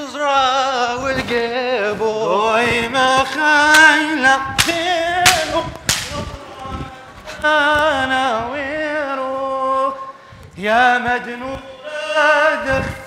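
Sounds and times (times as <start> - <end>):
person singing a chant: 0.0 - 13.0.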